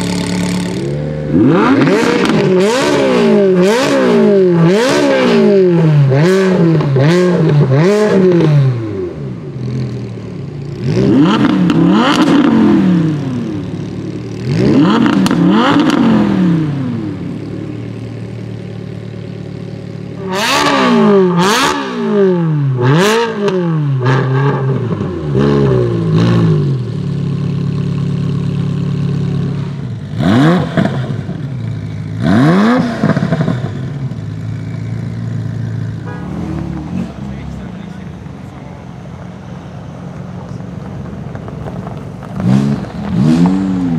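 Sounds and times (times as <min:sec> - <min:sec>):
car engine idling: 0:00.0 - 0:43.9
sports car engine revving: 0:00.0 - 0:43.9.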